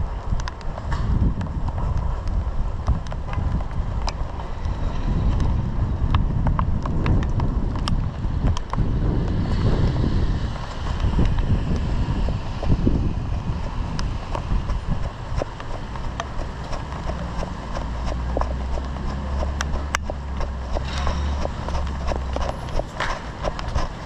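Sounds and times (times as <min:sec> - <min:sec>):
low rumble: 0:00.0 - 0:24.0
running footsteps: 0:00.0 - 0:24.0.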